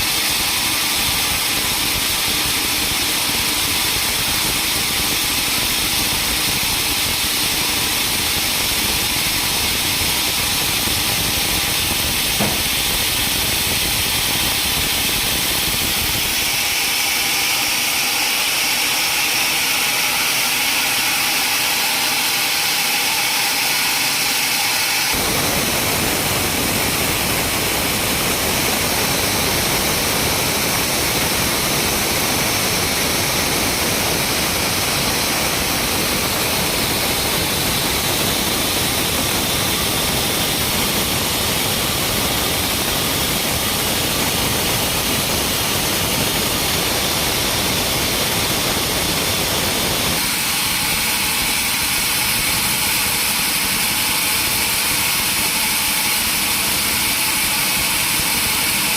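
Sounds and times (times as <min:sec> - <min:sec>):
sawmill machinery hissing: 0:00.0 - 0:58.9.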